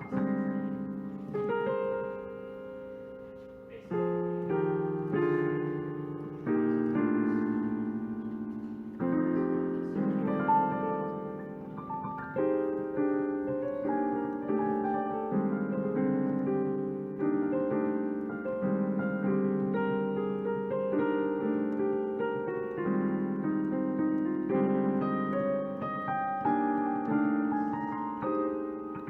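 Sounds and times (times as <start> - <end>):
jazz piano chords: 0.0 - 29.0.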